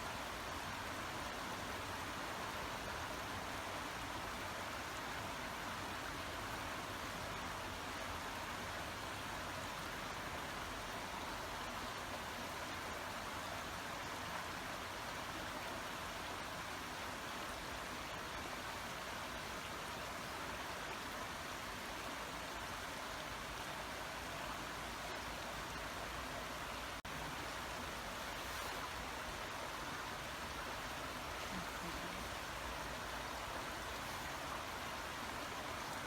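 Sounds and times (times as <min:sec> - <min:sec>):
brook water running: 0:00.0 - 0:36.0.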